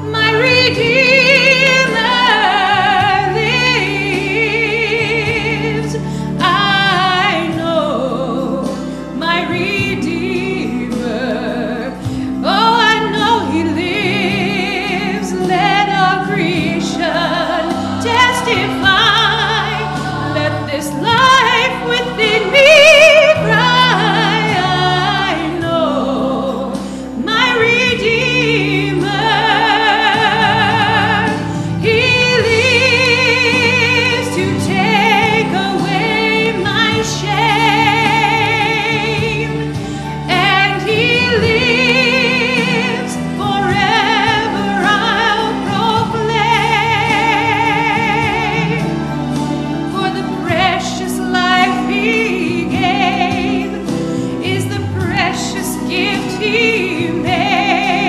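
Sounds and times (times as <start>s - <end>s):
woman singing gospel: 0.0s - 49.2s, 49.8s - 58.0s
instrumental backing music: 0.0s - 58.0s.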